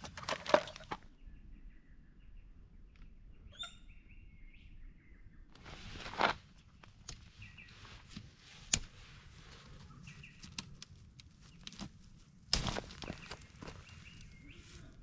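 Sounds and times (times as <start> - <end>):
birds calling faintly: 0.2 - 15.0.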